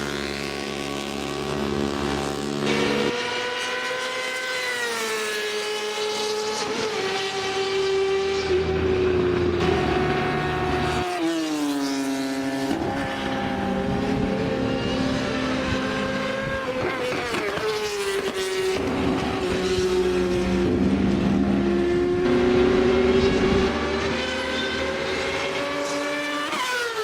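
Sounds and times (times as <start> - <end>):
racing engine revving hard: 0.0 - 27.0.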